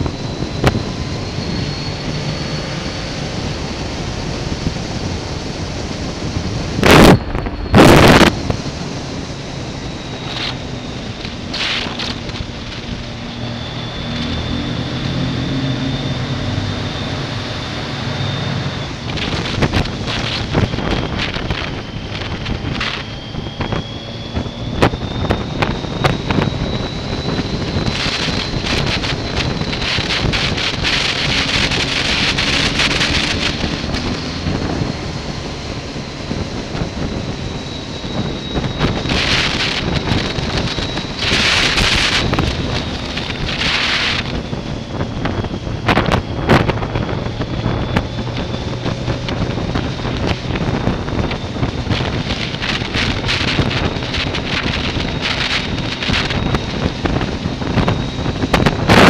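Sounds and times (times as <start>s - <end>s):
motorcycle engine running: 0.0s - 59.0s
thin high whine: 0.0s - 59.0s
wind rush on microphone: 0.0s - 59.0s.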